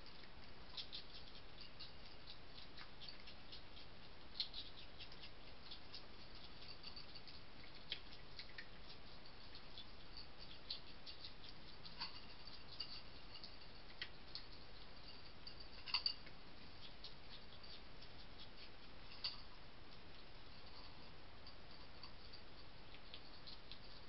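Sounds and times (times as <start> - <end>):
animals crunching dry food: 0.0 - 24.0.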